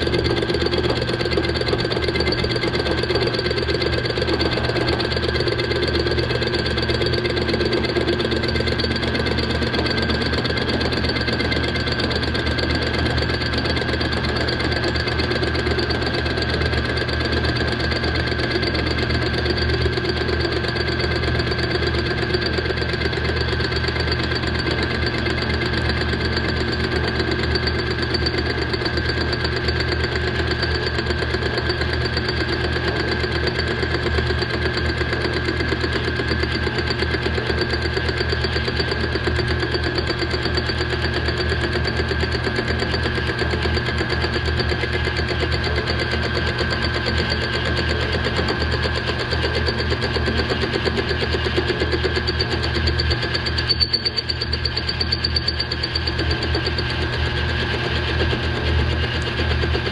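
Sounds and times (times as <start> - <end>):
milling machine cutting chatter: 0.0 - 59.9
milling machine high whine: 0.0 - 59.9.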